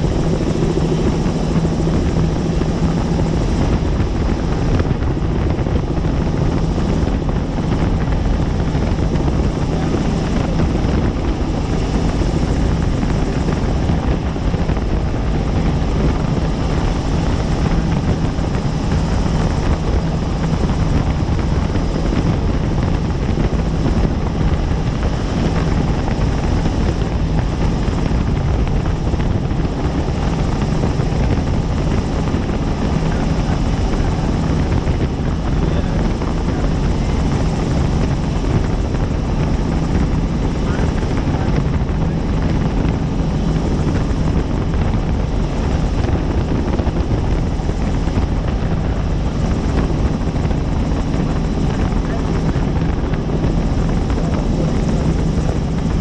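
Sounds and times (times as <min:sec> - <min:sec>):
helicopter rotor and turbine drone: 0:00.0 - 0:56.0.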